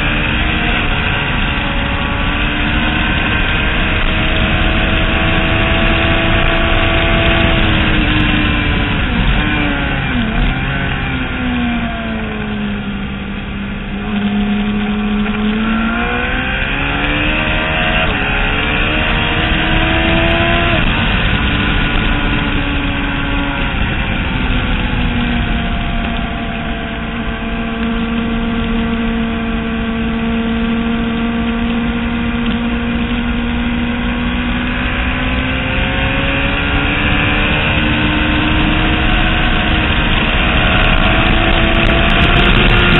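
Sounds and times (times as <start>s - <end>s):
race motorcycle engine: 0.0s - 42.9s
rush of noise: 0.0s - 42.9s.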